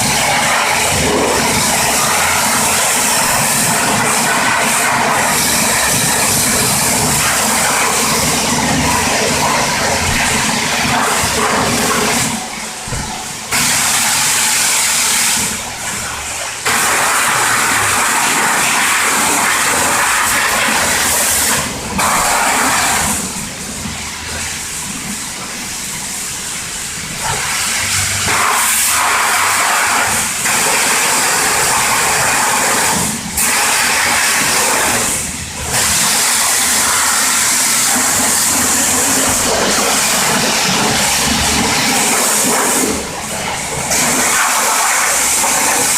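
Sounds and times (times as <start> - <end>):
pressure washer spraying water: 0.0 - 45.9.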